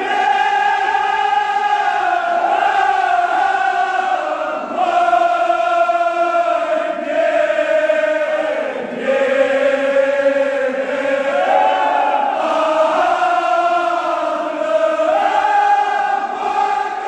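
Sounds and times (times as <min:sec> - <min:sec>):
crowd of men chanting in unison: 0:00.0 - 0:17.0.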